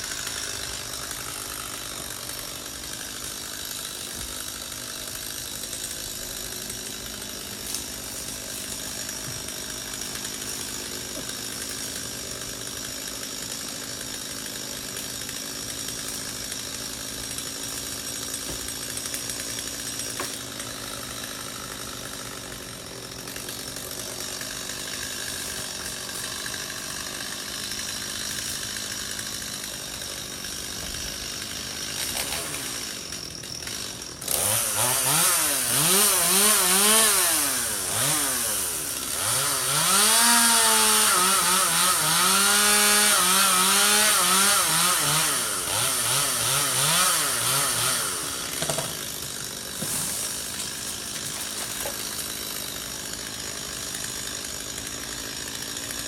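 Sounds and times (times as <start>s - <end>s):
chainsaw running: 0.0s - 56.0s.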